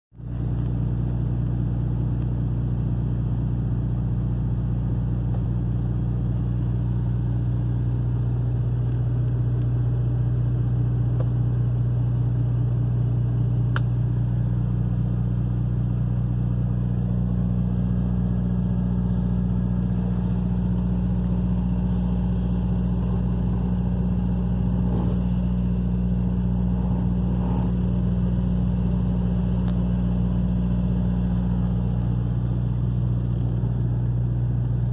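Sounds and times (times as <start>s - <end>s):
diesel truck engine idling: 3.4s - 34.9s.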